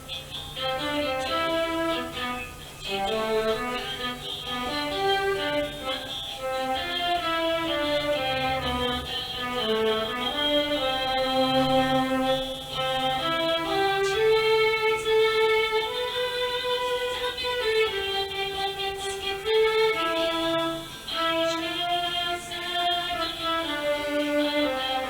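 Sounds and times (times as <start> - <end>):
electronic organ melody: 0.0 - 25.0.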